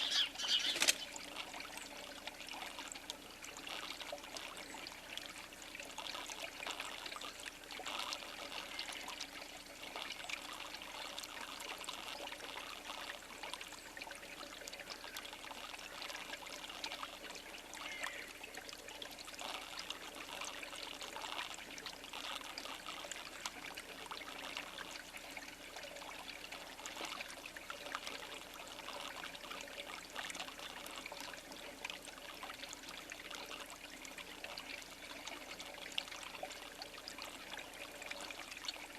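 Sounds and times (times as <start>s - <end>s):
water trickling with splashes: 0.0s - 38.9s.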